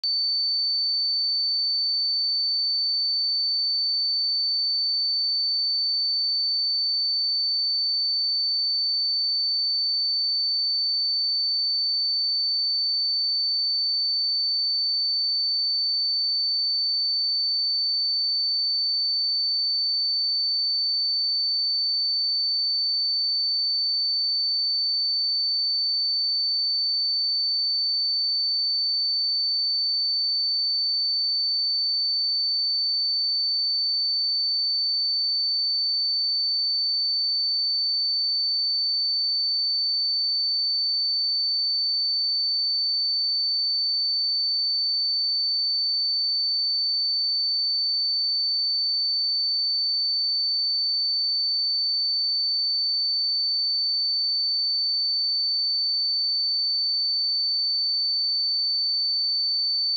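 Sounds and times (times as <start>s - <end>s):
sine-wave test tone: 0.1s - 59.9s.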